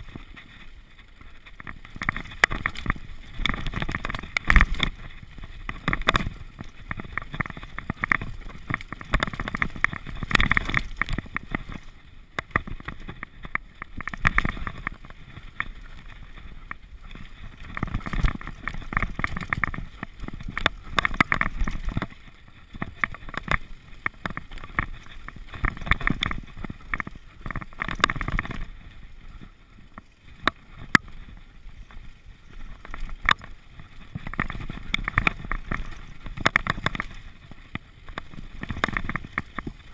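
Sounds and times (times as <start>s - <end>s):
bike chain and frame rattling: 0.0s - 39.9s
bike tyres rolling over dirt: 0.0s - 39.9s.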